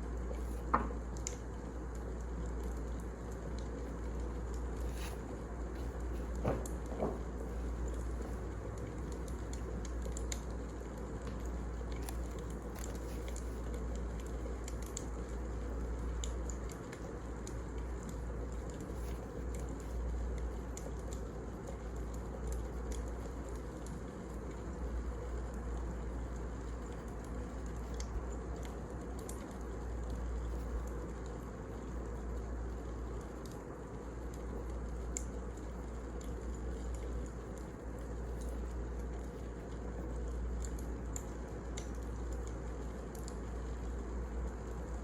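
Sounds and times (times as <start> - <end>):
fire rumbling in fireplace: 0.0 - 45.0
small crackles and pops: 0.0 - 45.0.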